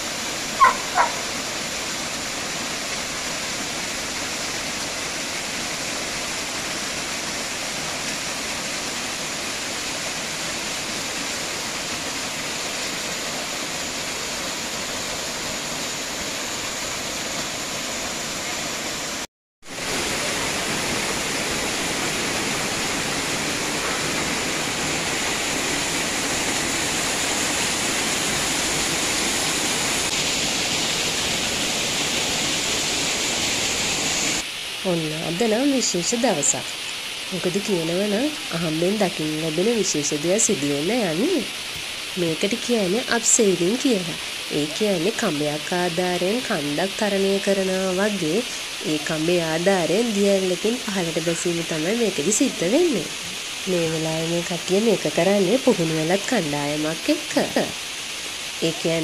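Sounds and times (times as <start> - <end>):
waterfall over rocks: 0.0 - 59.0.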